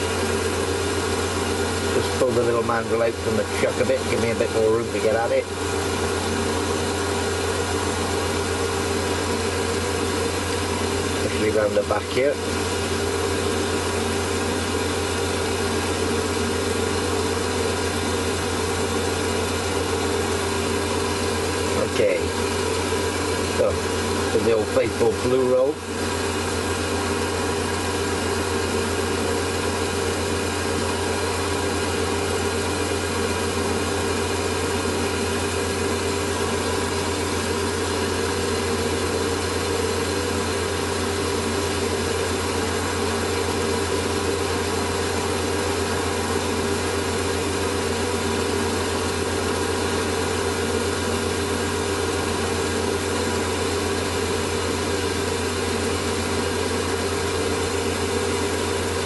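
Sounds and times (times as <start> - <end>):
lathe running with steady hum: 0.0 - 59.0.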